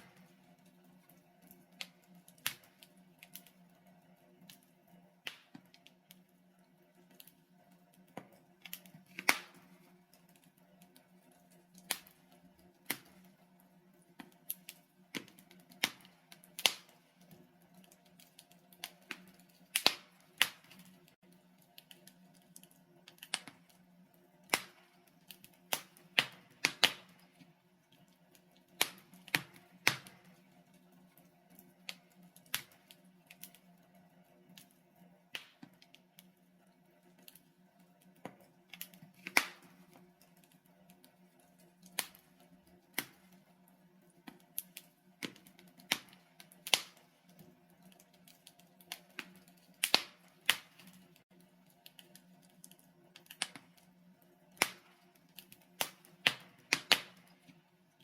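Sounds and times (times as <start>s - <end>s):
wood logs crackling and popping: 0.0s - 58.0s.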